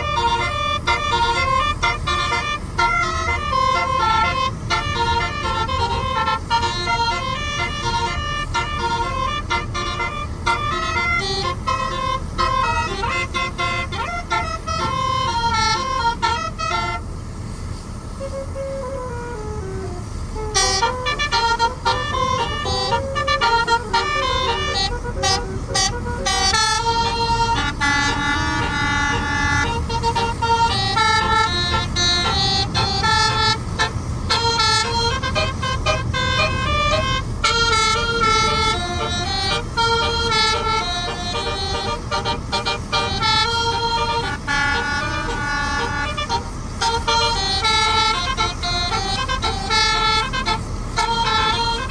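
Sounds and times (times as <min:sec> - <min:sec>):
bus horn playing melody: 0:00.0 - 0:51.9.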